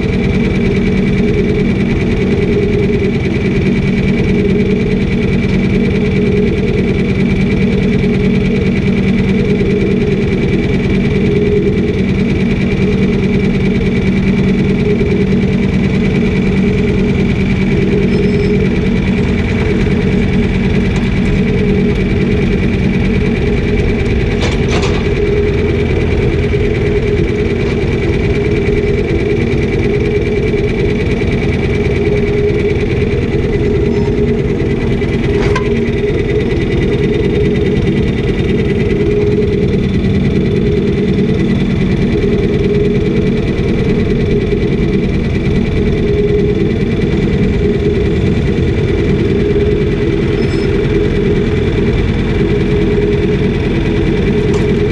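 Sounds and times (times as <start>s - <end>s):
farm machinery engine running: 0.0s - 54.9s
high whine: 0.0s - 54.9s.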